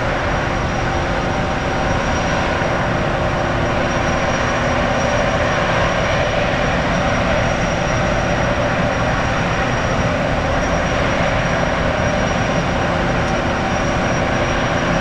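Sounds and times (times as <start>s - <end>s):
gas turbines running: 0.0s - 15.0s.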